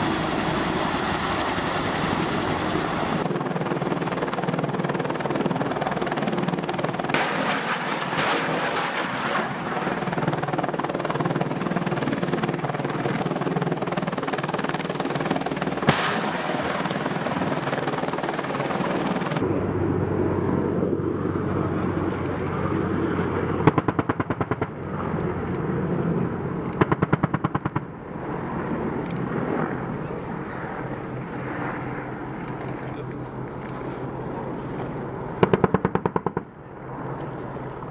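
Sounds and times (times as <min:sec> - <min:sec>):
helicopter rotors and turbines: 0:00.0 - 0:37.9.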